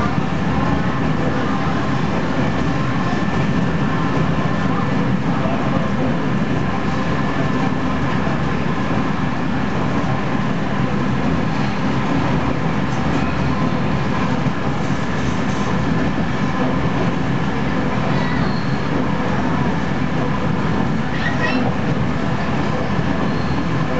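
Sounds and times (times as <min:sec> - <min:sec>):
diesel railcar engine drone: 0:00.0 - 0:23.9
wheel and rail noise: 0:00.0 - 0:23.9.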